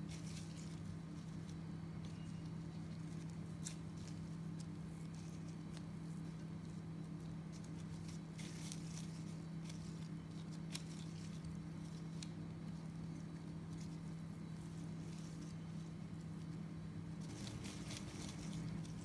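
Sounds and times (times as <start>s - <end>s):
plastic gloves crinkling: 0.0s - 19.0s
steady low hum: 0.0s - 19.0s.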